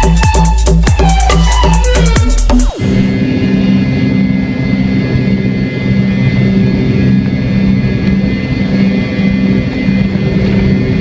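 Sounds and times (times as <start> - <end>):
jet engine cabin hum: 0.0 - 11.0.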